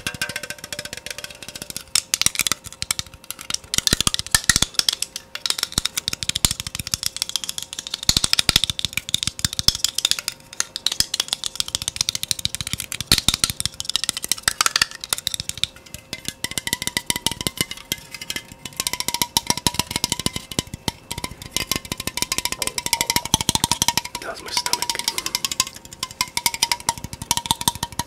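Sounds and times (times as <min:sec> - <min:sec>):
fast tapping and clicking: 0:00.0 - 0:28.0.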